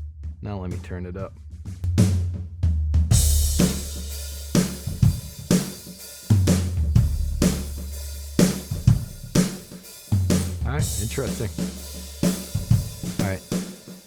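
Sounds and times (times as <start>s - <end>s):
acoustic drum kit groove: 0.2s - 14.0s.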